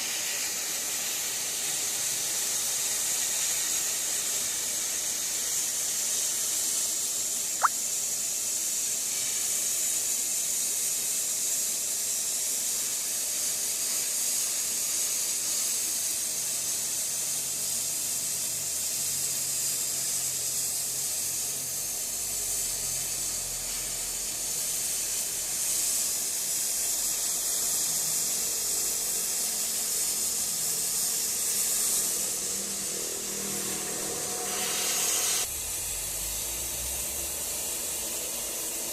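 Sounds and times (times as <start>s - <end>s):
cutting torch jet hiss: 0.0s - 38.9s.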